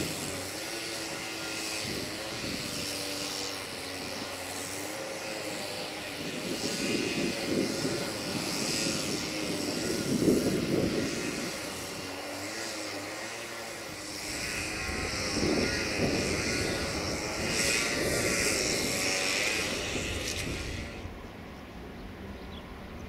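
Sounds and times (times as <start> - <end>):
train mechanical drone: 0.0 - 23.0.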